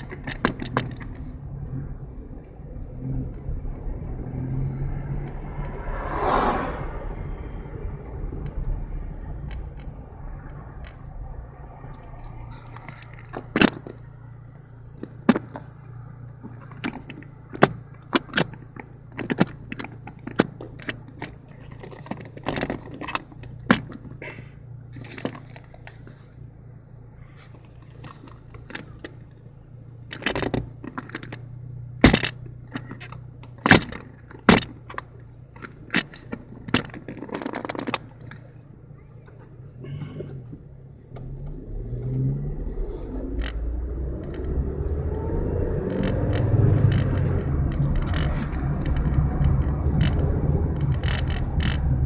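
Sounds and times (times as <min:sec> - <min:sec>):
loose items rattling in car: 0:00.0 - 0:05.7, 0:07.2 - 0:52.0
car engine hum from cabin: 0:00.0 - 0:52.0.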